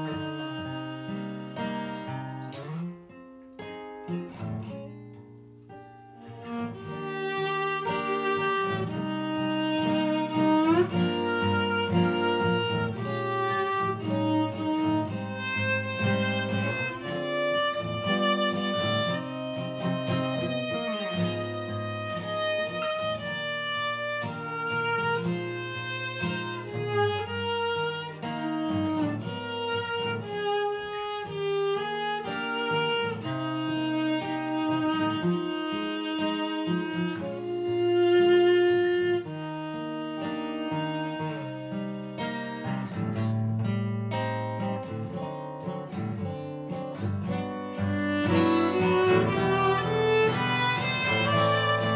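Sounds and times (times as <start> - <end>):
bowed violin melody: 0.0 - 2.9, 6.2 - 51.9
acoustic guitar accompaniment: 0.0 - 51.9.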